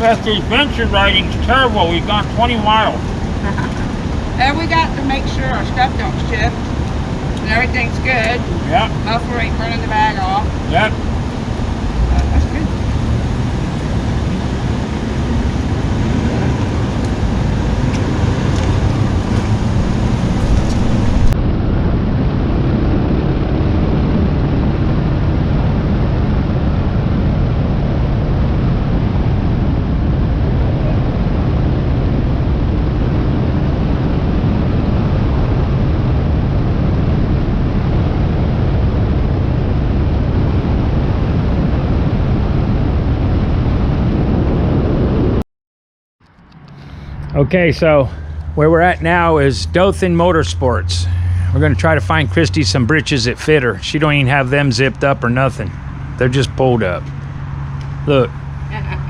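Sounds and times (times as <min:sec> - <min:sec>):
motorcycle engine: 0:00.0 - 0:42.2, 0:46.2 - 0:59.0
wind noise: 0:00.0 - 0:45.4, 0:46.2 - 0:59.0.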